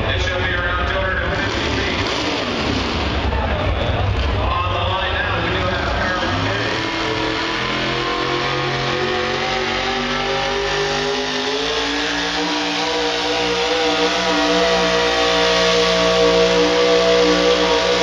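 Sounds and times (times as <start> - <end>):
truck engine at high revs: 0.0 - 18.0.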